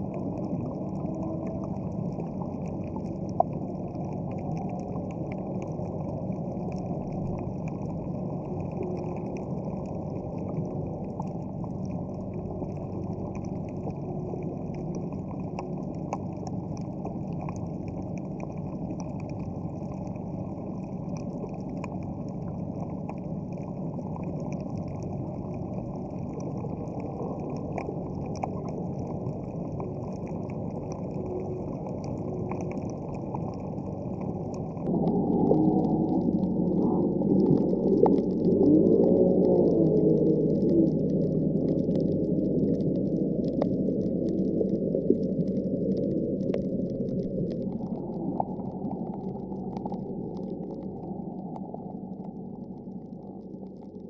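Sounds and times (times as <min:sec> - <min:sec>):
underwater low drone: 0:00.0 - 0:54.0.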